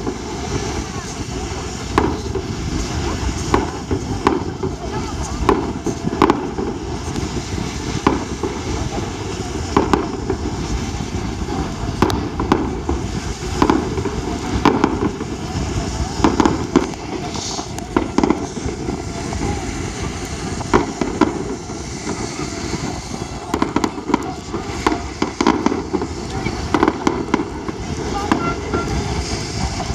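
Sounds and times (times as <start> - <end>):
fireworks bangs: 0.0 - 29.9
steady noisy background: 0.0 - 29.9.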